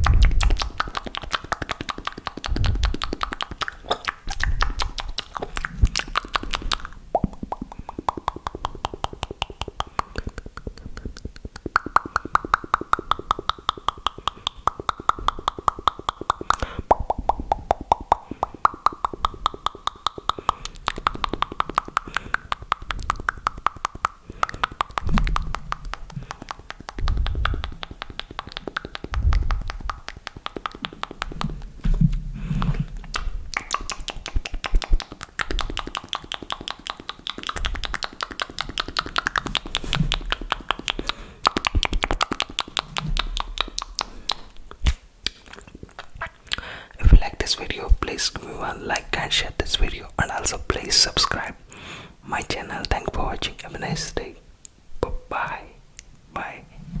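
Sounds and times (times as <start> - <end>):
tongue clicks and pops: 0.0 - 56.6.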